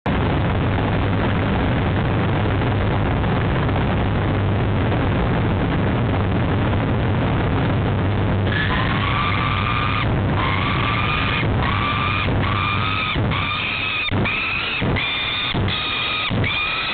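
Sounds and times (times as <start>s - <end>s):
low hum: 0.0s - 16.9s
rushing background noise: 0.0s - 16.9s.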